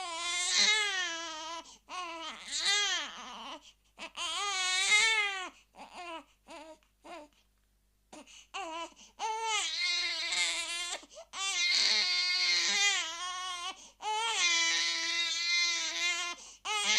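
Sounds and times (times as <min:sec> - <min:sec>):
baby crying: 0:00.0 - 0:07.3, 0:08.2 - 0:16.9.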